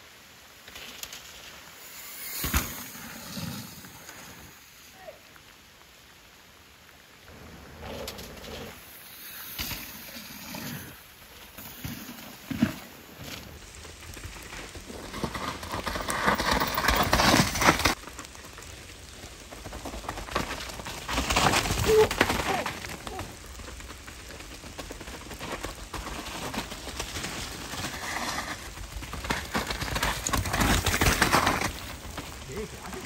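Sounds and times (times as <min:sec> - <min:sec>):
mountain bikes skidding through mud: 0:00.6 - 0:05.3, 0:07.2 - 0:33.0.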